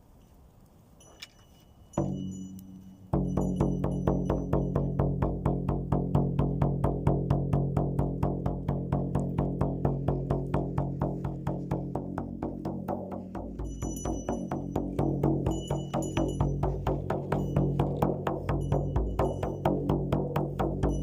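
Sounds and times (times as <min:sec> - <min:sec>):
frame drum beaten fast: 0:03.1 - 0:21.0.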